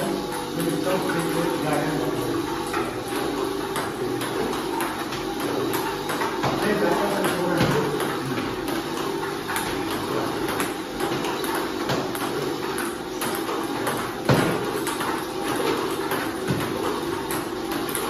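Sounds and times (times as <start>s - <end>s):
ping-pong balls clicking: 0.0s - 18.0s.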